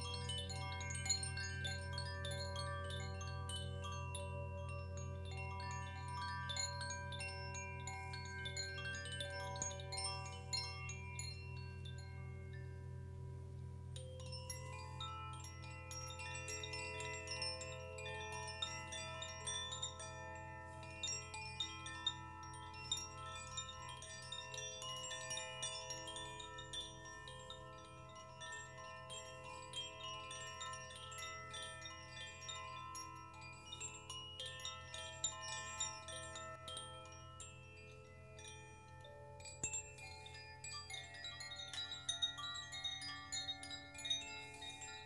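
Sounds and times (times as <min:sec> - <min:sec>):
metal wind chimes jingling: 0:00.0 - 0:13.1, 0:13.9 - 0:45.0.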